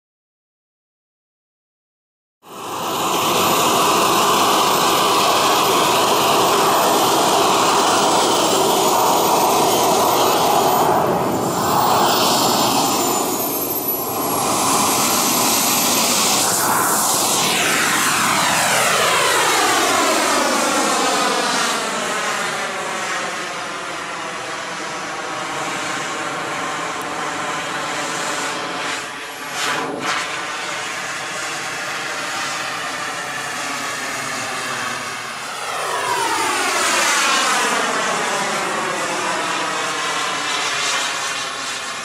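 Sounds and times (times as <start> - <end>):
model jet turbine whooshing: 2.5 - 42.0.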